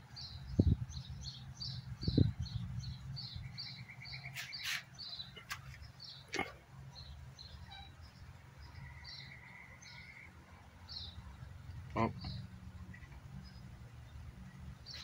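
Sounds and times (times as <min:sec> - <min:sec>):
small bird chirping: 0:00.1 - 0:15.0.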